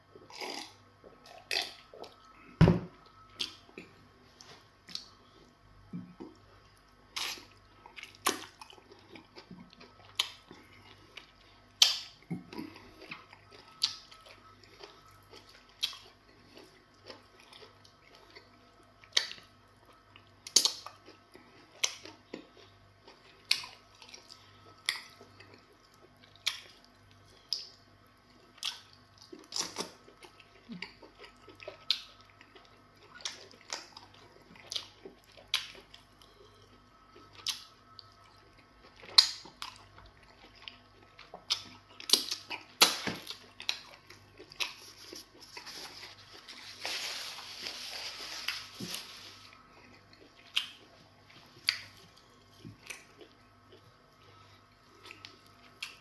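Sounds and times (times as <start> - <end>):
wet chewing and mouth smacks: 6.2 - 27.8, 28.6 - 36.5, 37.2 - 46.6, 49.6 - 56.0.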